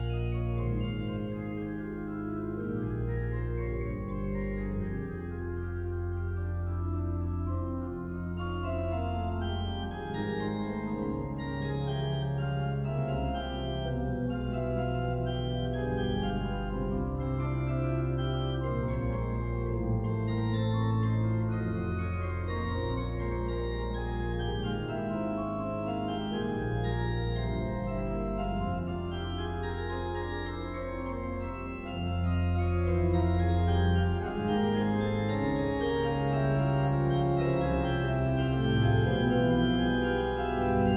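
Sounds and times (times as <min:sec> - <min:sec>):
organ playing sustained chords: 0:00.0 - 0:40.9.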